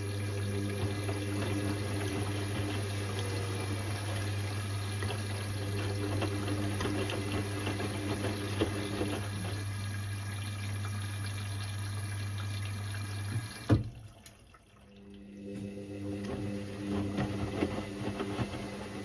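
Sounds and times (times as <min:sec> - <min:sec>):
washing machine water running: 0:00.0 - 0:19.0.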